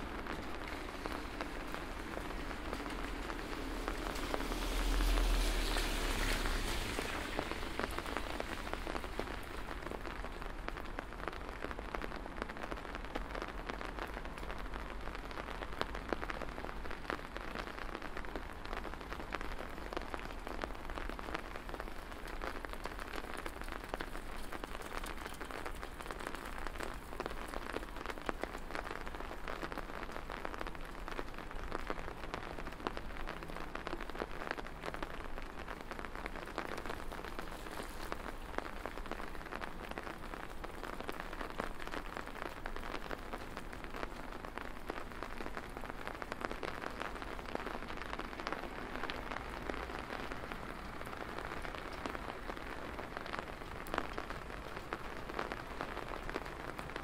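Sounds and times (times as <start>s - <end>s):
rain drops pattering: 0.0s - 57.0s.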